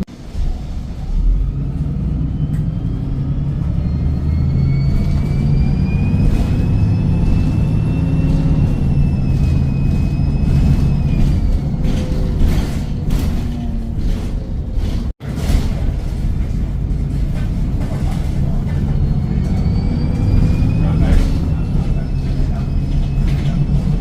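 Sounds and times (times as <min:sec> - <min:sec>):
diesel bus engine pulling hard: 0:00.0 - 0:24.0.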